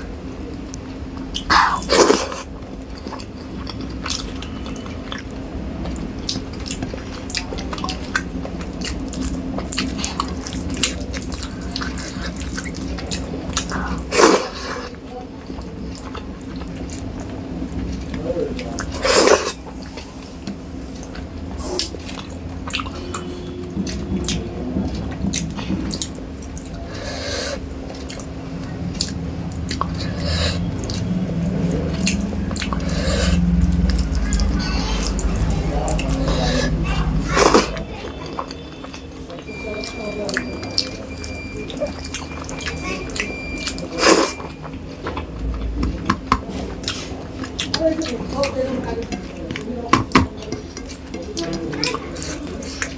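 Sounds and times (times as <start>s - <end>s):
person chewing wetly: 0.0s - 52.9s
steady low hum: 0.0s - 52.9s.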